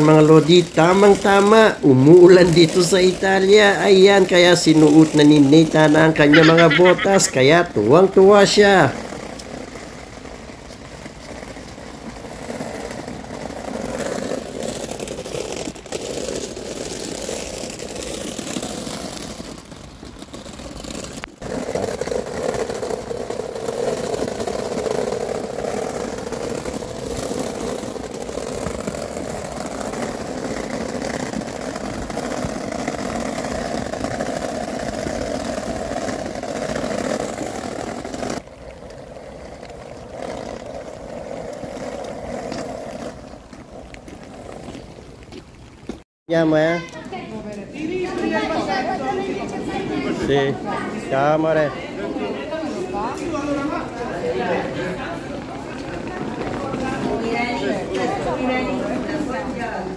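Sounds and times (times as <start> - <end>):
small wheels rolling on wet asphalt: 0.0 - 59.9.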